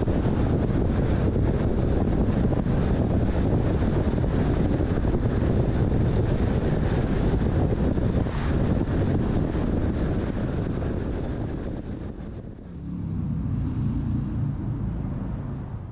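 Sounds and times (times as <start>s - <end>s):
car road noise: 0.0s - 15.9s
wind buffeting microphone: 0.0s - 15.9s.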